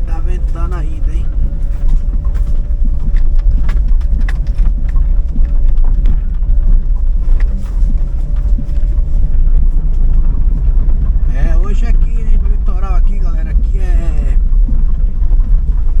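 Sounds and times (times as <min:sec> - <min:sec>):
car driving along road: 0:00.0 - 0:16.0
wind buffeting microphone: 0:00.0 - 0:16.0.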